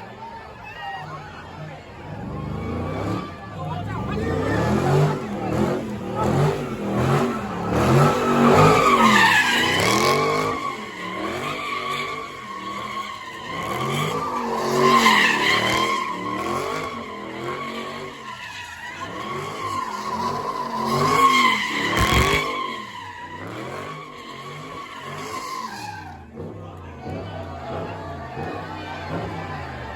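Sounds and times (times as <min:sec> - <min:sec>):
car tires squealing: 0:00.0 - 0:29.9
car engine running: 0:01.4 - 0:29.9.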